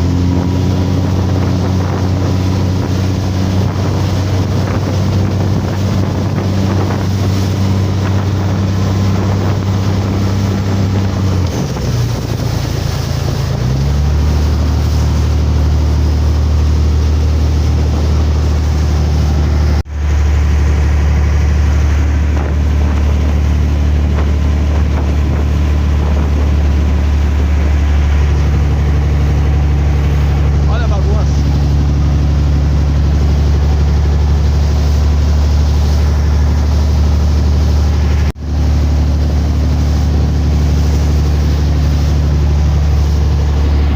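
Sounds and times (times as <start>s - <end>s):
motorboat engine running: 0.0s - 43.9s
rushing water: 0.0s - 43.9s
wind buffeting microphone: 0.0s - 43.9s.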